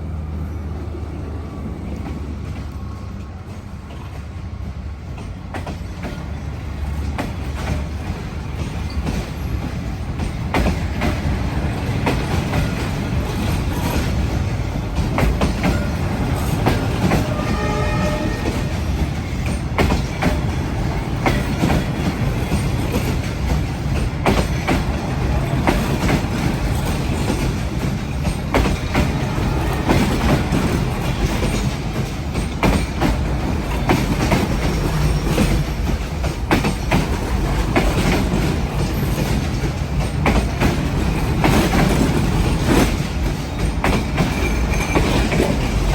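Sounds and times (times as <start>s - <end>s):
train rumbling on rails: 0.0s - 45.9s
wheels clicking over rail joints: 2.0s - 45.9s.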